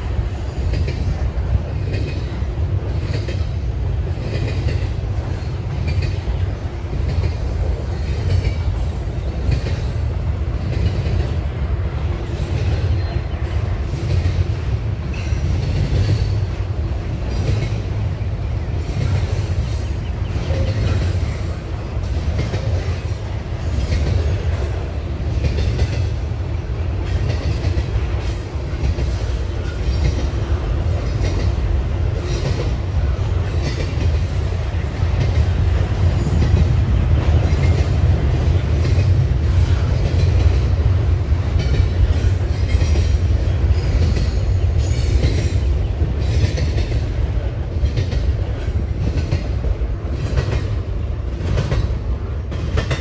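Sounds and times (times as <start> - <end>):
wheels clicking over rail joints: 0.0 - 26.3, 27.0 - 53.0
freight train rumble: 0.0 - 53.0.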